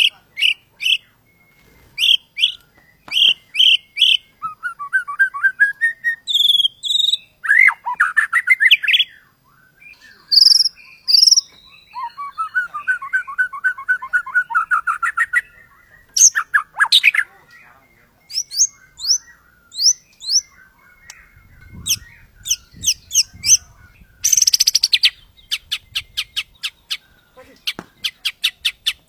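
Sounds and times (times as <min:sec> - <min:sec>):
bird singing varied rapid song: 0:00.0 - 0:29.0.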